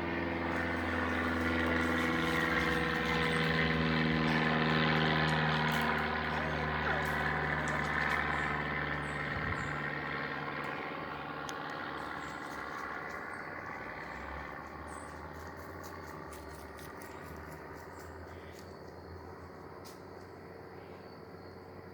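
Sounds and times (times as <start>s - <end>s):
propeller aircraft engine droning: 0.0s - 21.9s.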